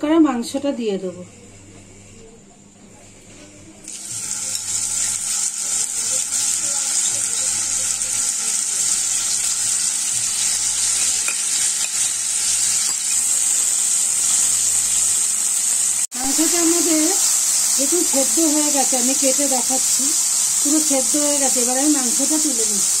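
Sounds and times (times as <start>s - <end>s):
chicken frying in hot oil: 3.9s - 23.0s.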